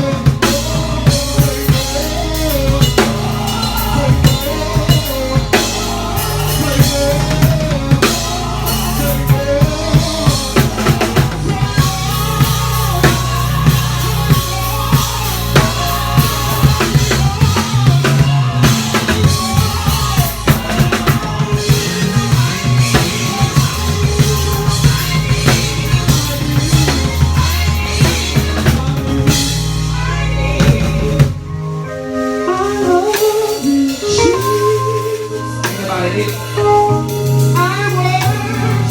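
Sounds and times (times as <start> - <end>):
bass guitar low notes: 0.0 - 31.8
drum kit: 0.0 - 38.9
keyboard melody: 0.0 - 38.9.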